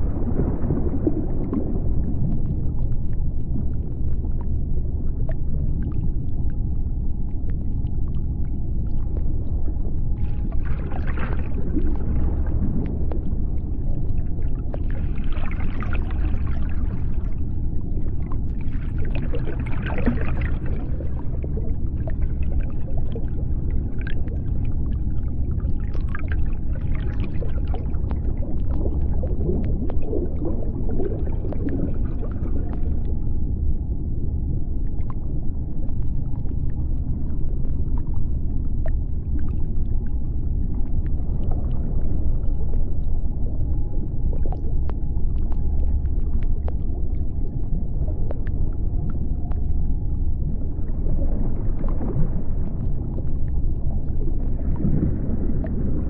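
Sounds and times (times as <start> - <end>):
deep underwater rumble: 0.0 - 56.0.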